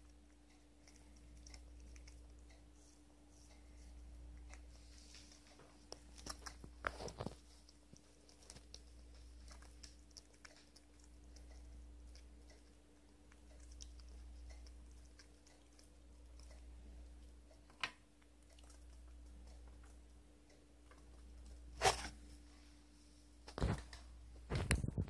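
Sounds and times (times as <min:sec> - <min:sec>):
squirrel chewing clicks: 0:00.0 - 0:21.6
low steady hum: 0:00.0 - 0:25.0.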